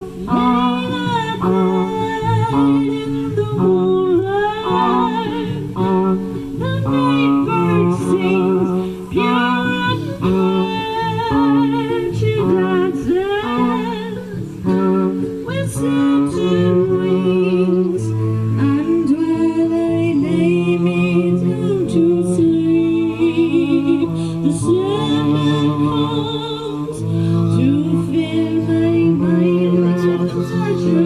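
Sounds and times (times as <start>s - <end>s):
held melody with vibrato: 0.0s - 31.0s
plucked guitar chords: 0.0s - 31.0s.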